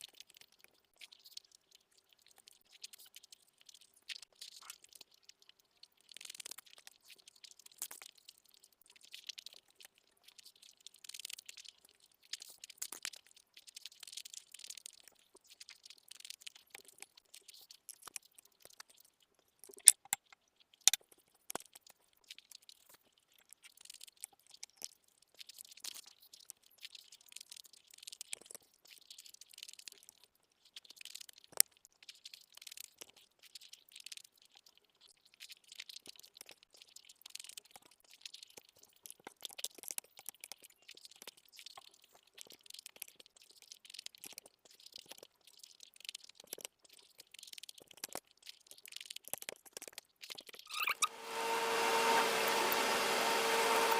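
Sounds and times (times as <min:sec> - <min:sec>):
chewing and wet mouth sounds: 0:00.0 - 0:51.1.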